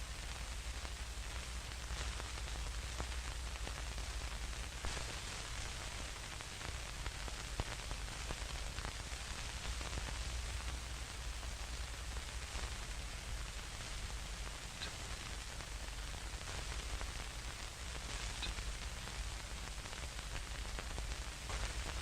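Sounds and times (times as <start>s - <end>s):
crackles and pops: 0.0s - 22.0s
film static hiss: 0.0s - 22.0s
low flickering rumble: 0.0s - 22.0s.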